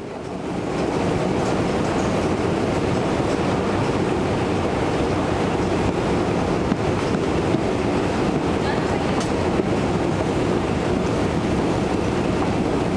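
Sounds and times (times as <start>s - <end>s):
underground station rumble: 0.0s - 12.9s.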